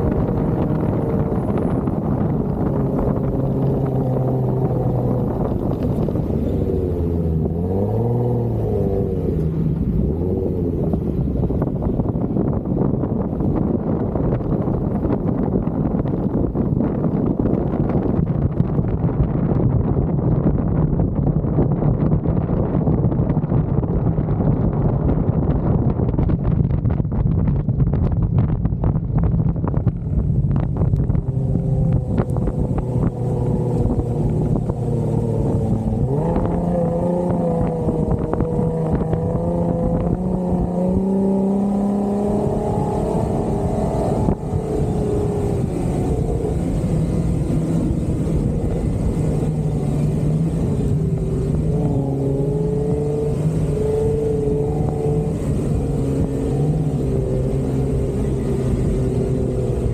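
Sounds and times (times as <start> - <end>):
off-road vehicle engine revving: 0.0 - 19.2, 29.7 - 59.9.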